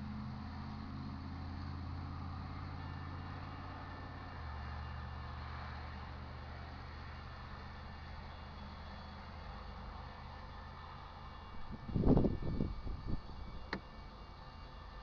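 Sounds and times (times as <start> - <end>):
locomotives passing with engine drone: 0.0 - 15.0.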